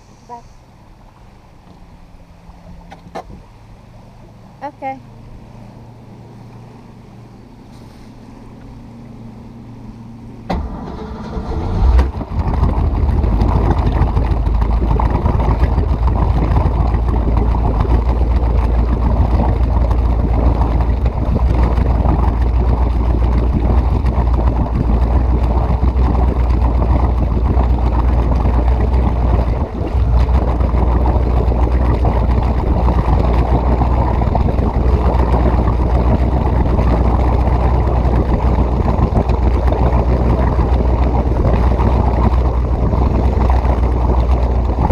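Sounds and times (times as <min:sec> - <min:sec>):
boat engine rumbling: 0:00.0 - 0:44.9
wind and water rushing: 0:00.0 - 0:44.9.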